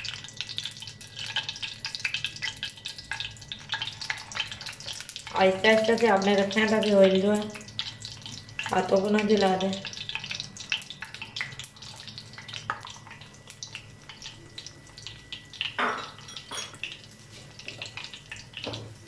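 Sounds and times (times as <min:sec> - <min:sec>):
cutlets sizzling in hot oil: 0:00.0 - 0:19.0
low steady hum: 0:00.0 - 0:19.0.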